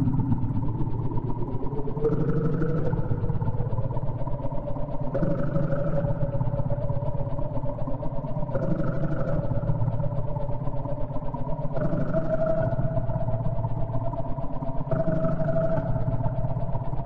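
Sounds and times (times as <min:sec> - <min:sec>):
electronic buzzing drone music: 0:00.0 - 0:17.0.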